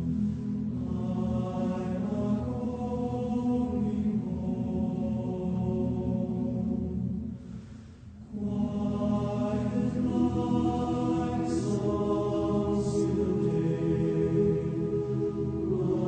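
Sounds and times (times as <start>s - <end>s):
choral voices holding chords: 0.0s - 16.0s.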